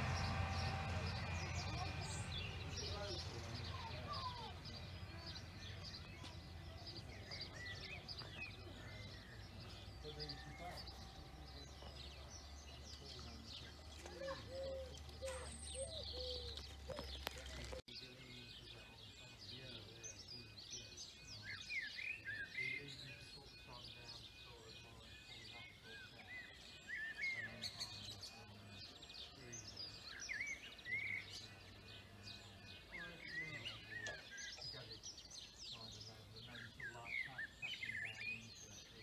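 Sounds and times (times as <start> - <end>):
birds chirping and singing: 0.0 - 39.0
level crossing warning alarm: 0.0 - 39.0.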